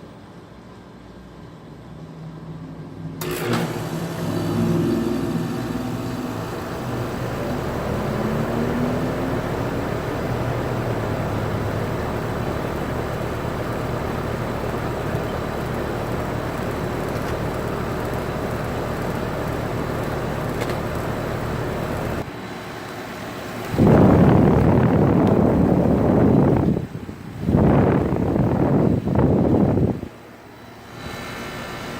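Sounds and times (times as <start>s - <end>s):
air conditioner unit humming: 0.0s - 31.9s.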